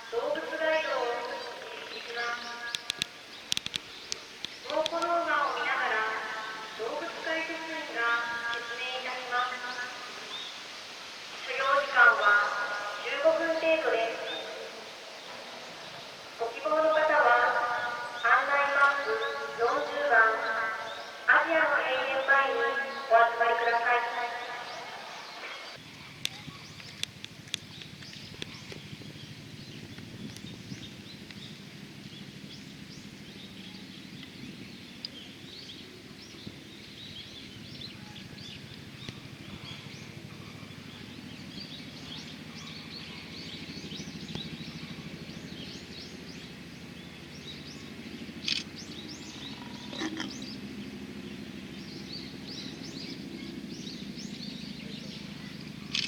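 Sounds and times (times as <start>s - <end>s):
small birds chirping: 0.0s - 56.0s
steady low hum: 11.1s - 56.0s.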